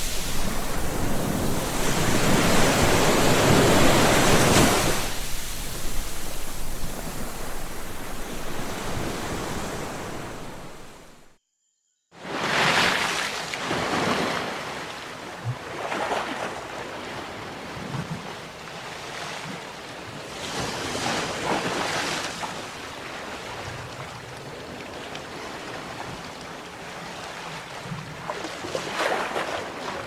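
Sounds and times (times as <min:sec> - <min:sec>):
sea waves breaking on shore: 0:00.0 - 0:11.3, 0:12.2 - 0:30.0.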